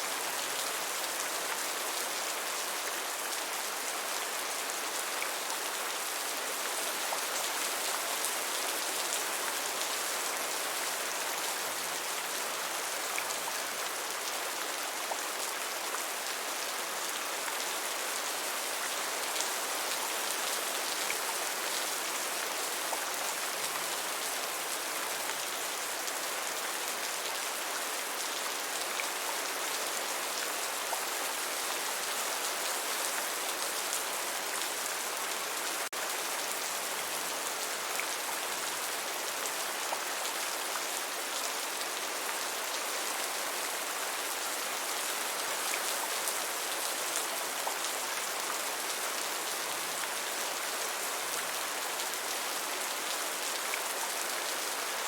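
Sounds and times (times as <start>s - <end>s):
gentle rain falling: 0.0s - 55.0s.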